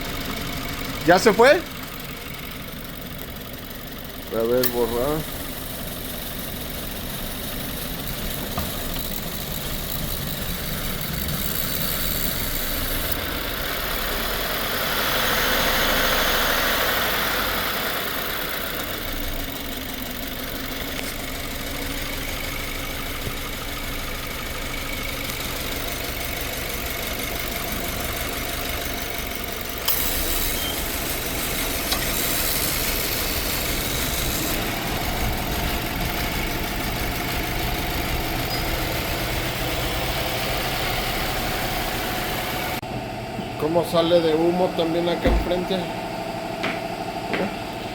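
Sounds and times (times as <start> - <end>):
misfiring car engine idling: 0.0 - 47.9.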